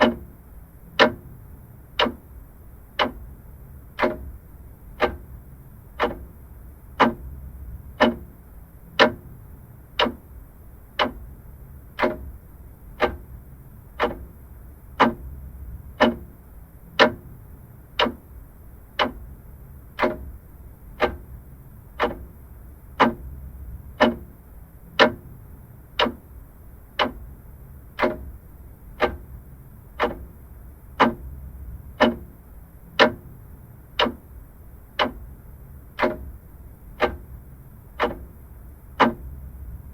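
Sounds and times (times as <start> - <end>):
faint low rumble: 0.0 - 39.9
mechanical clock ticking: 0.0 - 39.9.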